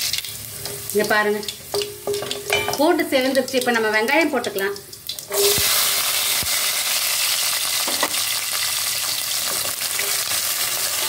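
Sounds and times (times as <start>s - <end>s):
shallots sizzling in oil: 0.0s - 11.0s.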